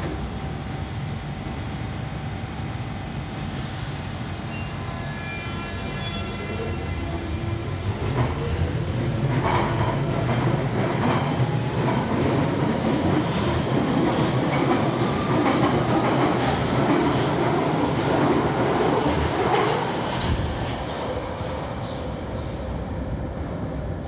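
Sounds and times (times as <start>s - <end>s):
underground train pulling out: 3.2s - 24.0s.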